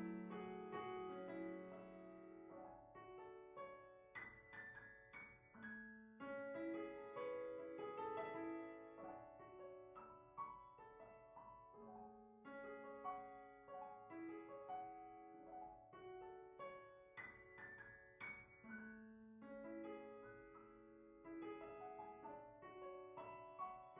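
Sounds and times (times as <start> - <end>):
slow piano music: 0.0 - 23.9.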